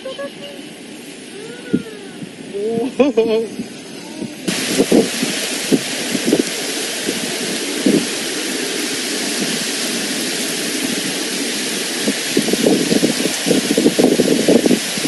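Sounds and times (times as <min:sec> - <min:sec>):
floodwater rushing: 0:00.0 - 0:15.0
hail pouring: 0:00.0 - 0:15.0.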